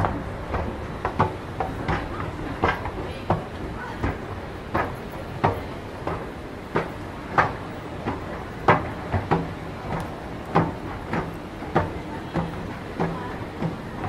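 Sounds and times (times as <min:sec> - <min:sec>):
background noise: 0:00.0 - 0:14.0.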